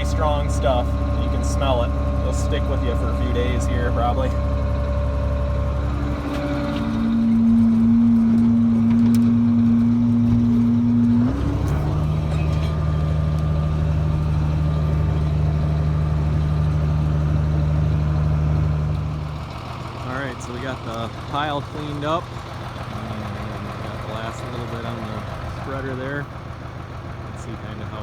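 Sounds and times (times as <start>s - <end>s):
tractor engine under load: 0.0s - 28.0s.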